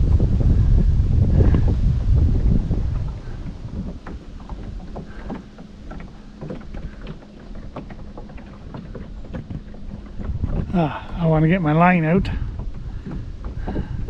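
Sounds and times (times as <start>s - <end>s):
water lapping against hull: 0.0s - 14.0s
wind rumble on microphone: 0.0s - 14.0s.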